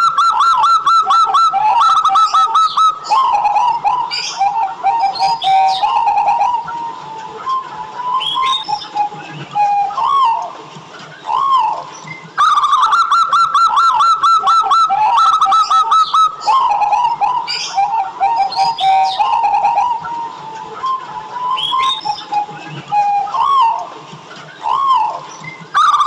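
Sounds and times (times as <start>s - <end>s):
dove cooing: 0.0s - 10.6s, 11.2s - 26.0s.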